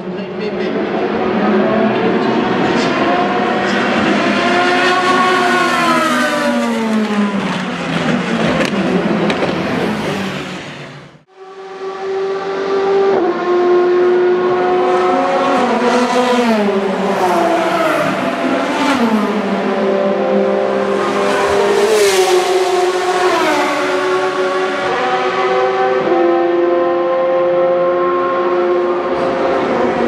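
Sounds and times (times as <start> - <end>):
race car engines running: 0.0 - 30.0.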